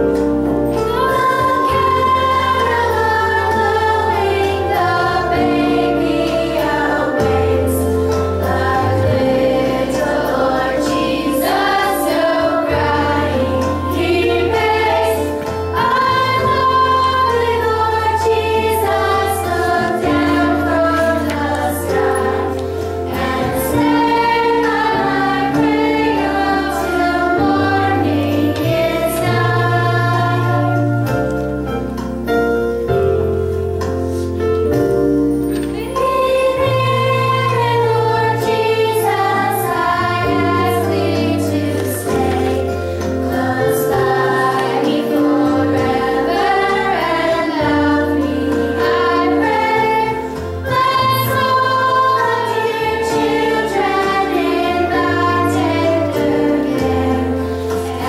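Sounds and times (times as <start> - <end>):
instrumental accompaniment: 0.0 - 58.0
voices singing: 0.8 - 31.1, 35.7 - 58.0.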